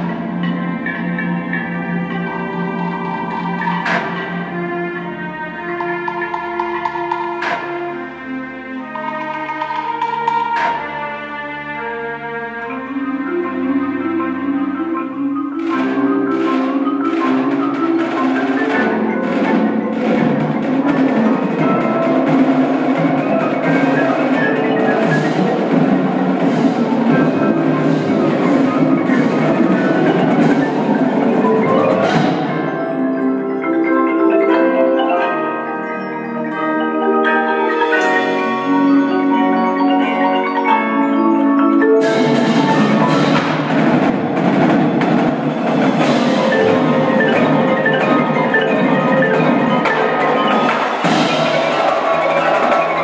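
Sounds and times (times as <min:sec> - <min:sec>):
drumline drum strokes: 0:00.0 - 0:35.6, 0:37.6 - 0:53.0
marimbas and mallet keyboards: 0:00.0 - 0:53.0.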